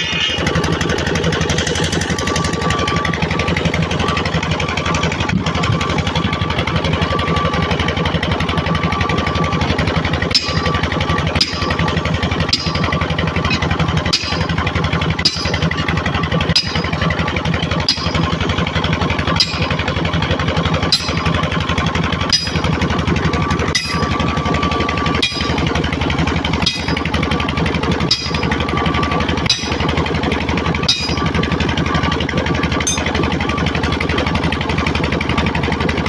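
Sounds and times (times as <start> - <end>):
machine rattling fast: 0.0 - 36.0.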